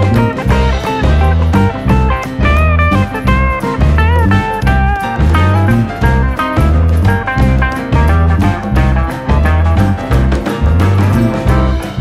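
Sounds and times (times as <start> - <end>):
guitar-led tune: 0.0 - 12.0
pulsing bass line: 0.0 - 12.0.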